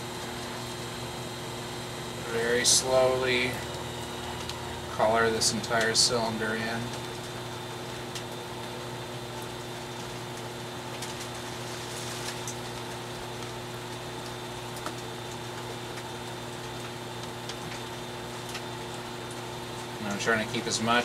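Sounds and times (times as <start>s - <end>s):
pottery wheel motor hum: 0.0s - 21.0s.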